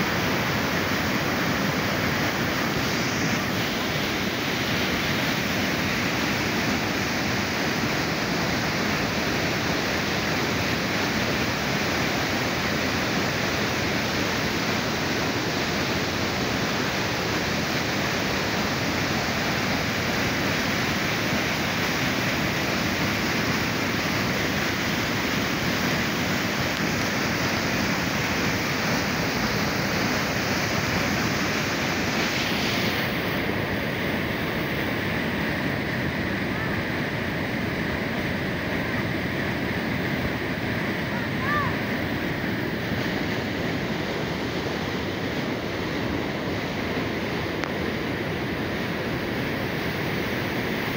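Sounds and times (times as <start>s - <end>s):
white water rushing: 0.0s - 50.9s.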